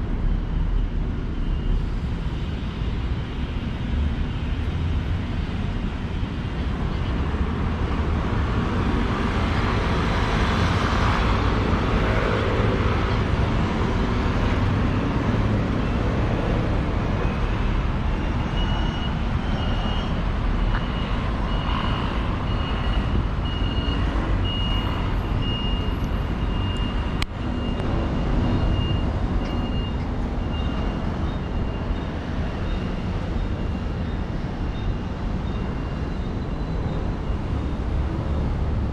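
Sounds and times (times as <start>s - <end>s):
vehicles passing on street: 0.0s - 38.9s.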